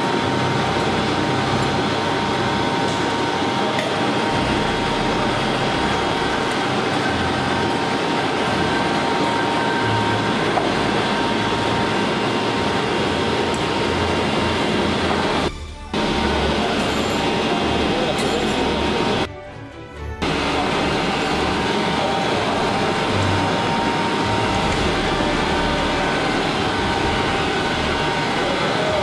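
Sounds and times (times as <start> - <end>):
machinery droning: 0.0 - 19.3, 20.2 - 29.0.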